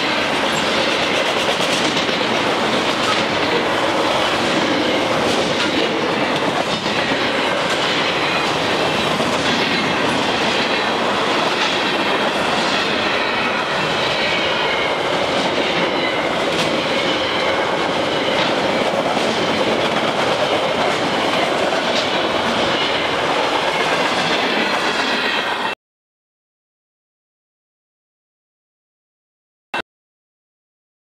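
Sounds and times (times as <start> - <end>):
steel wheels rumbling on rail: 0.0 - 25.8.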